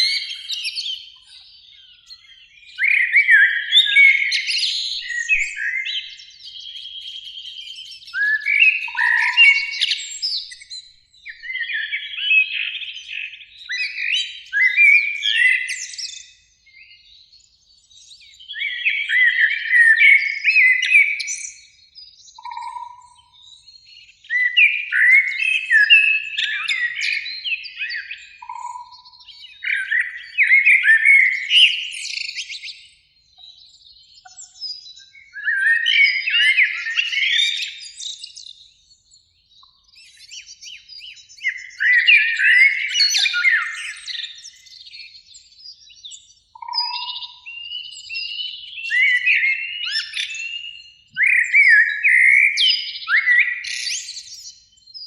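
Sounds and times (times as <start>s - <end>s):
blackbird song: 0.0s - 55.0s.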